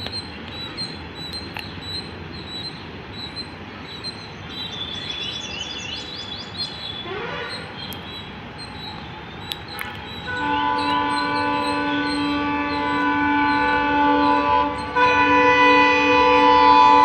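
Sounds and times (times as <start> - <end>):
small birds chirping: 0.0 - 15.0
steady background noise: 0.0 - 17.0.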